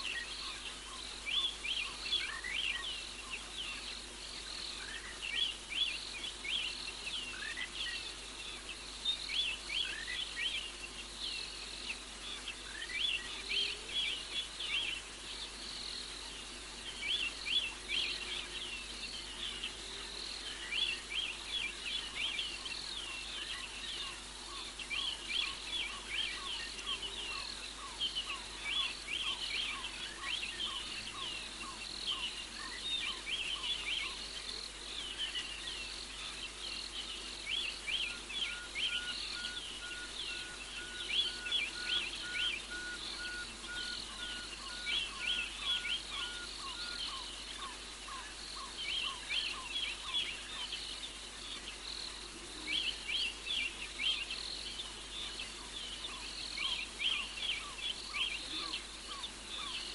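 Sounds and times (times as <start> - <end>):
frogs calling: 0.0 - 59.9
insects chirping: 0.0 - 59.9.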